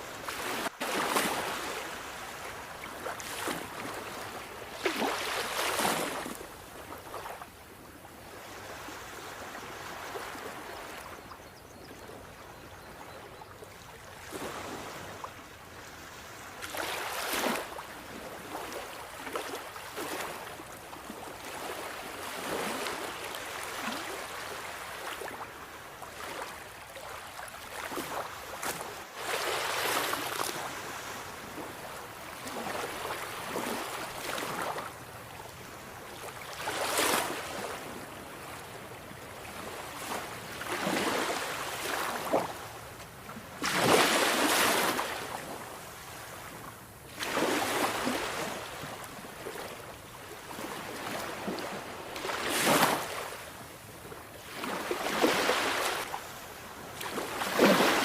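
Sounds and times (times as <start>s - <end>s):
waves breaking on shore: 0.0s - 11.3s, 13.7s - 58.0s.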